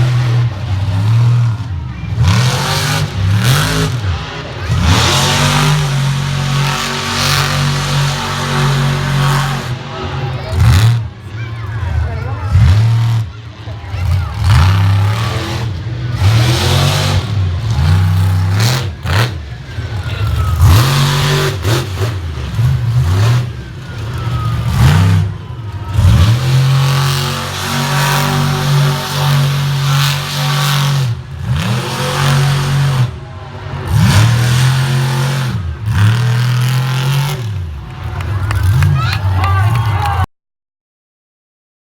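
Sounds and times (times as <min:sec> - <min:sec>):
truck engine revving hard: 0:00.0 - 0:40.2.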